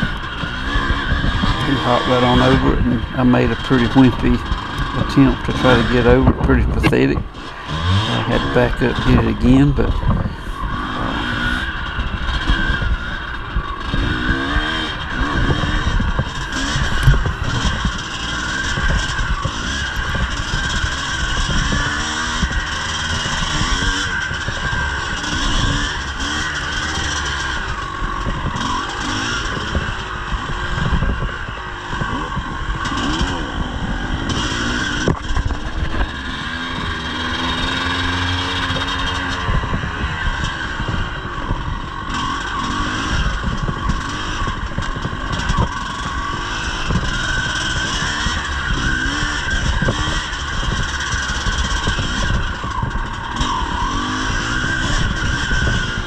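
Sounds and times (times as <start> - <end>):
motorcycle clatter: 0.0 - 56.0
motorcycle engine revving: 0.0 - 56.0.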